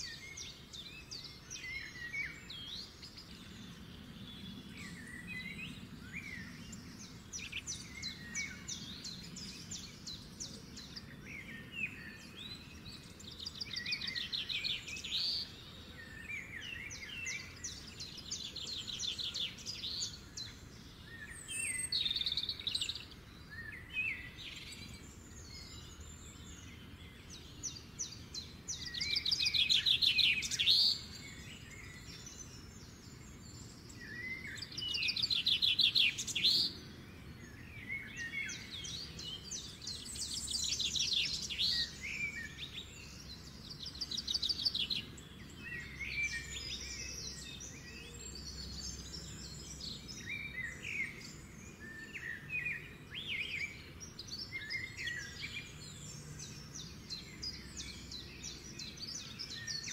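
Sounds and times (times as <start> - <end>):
songbird chirps and trills: 0.0 - 59.9.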